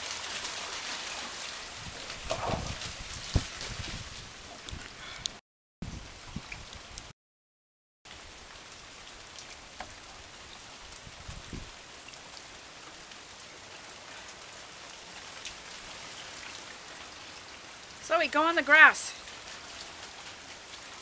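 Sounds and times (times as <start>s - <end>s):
rain falling on puddles: 0.0s - 7.1s, 8.1s - 21.0s.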